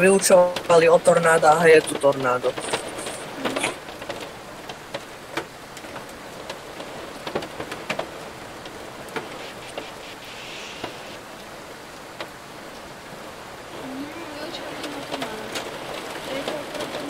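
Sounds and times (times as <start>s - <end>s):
raindrops ticking on surface: 0.0s - 17.0s
steady rain: 0.0s - 17.0s.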